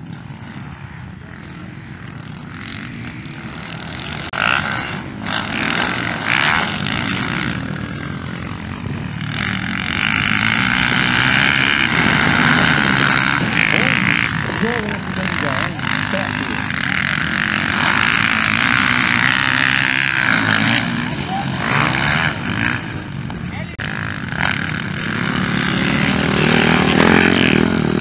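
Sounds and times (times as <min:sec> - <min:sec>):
motocross bike engines revving: 0:00.0 - 0:28.0.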